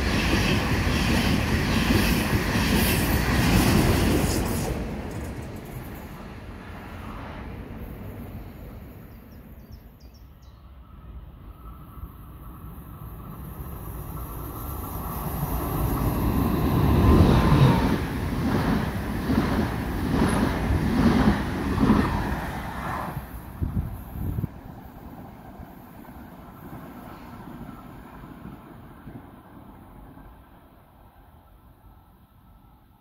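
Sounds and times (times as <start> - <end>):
train passing: 0.0 - 33.0.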